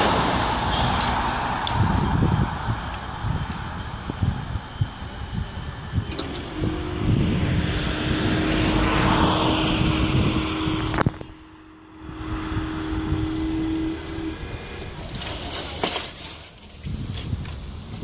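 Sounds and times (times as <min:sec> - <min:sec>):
barrier drive humming: 0:00.0 - 0:18.0
road traffic noise: 0:00.0 - 0:18.0.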